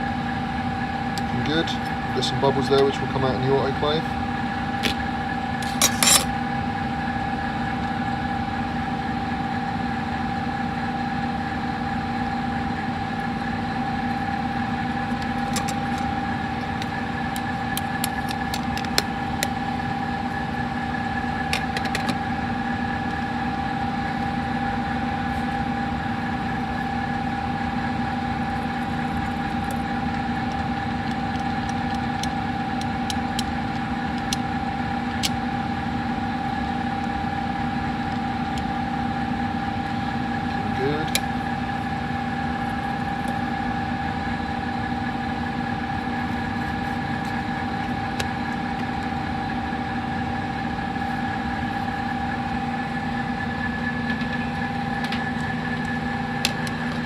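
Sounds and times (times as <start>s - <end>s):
small machine droning: 0.0s - 57.0s.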